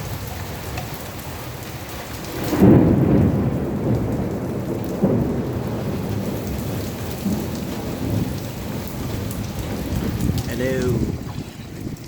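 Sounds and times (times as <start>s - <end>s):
heavy rain falling: 0.0s - 12.0s
low rumble of thunder: 1.6s - 12.0s.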